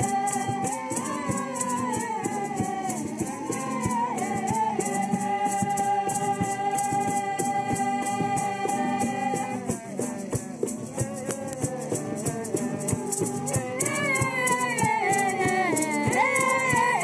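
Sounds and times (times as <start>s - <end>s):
shaker rattle rhythm: 0.0s - 17.0s.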